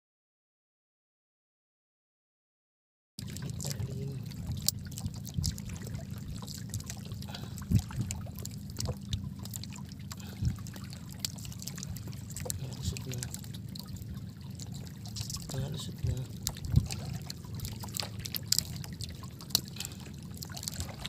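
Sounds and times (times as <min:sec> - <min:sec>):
low rumble: 0:03.2 - 0:21.0
water trickling and dripping: 0:03.2 - 0:21.0.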